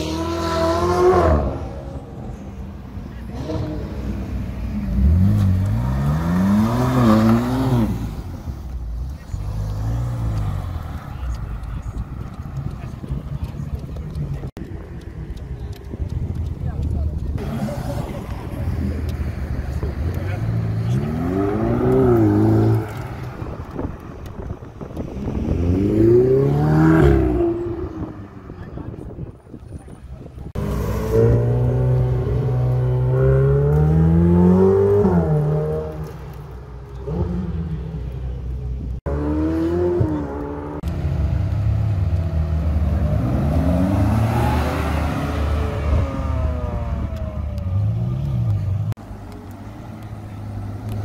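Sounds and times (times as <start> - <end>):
sports car engines revving: 0.0 - 51.0.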